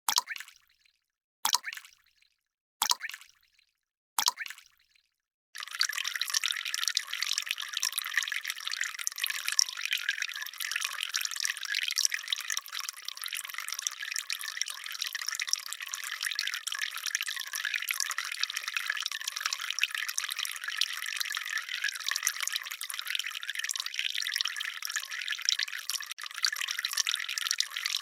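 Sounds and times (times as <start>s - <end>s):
water dripping and trickling: 0.1s - 28.0s.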